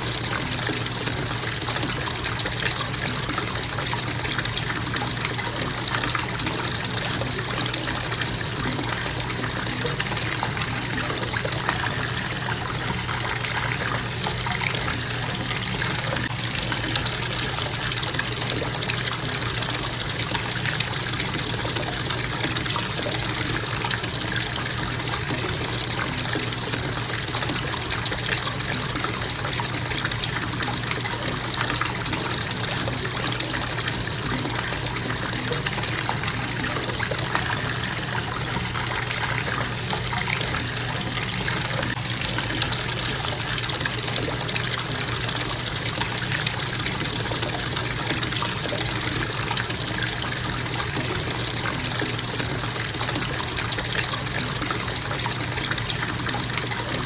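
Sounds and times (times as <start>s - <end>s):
faucet running into bathtub: 0.0s - 57.0s.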